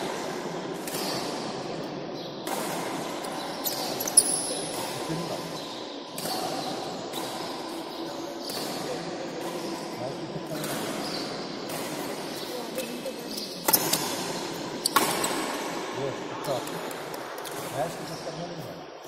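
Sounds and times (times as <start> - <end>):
badminton hall background noise: 0.0 - 19.0.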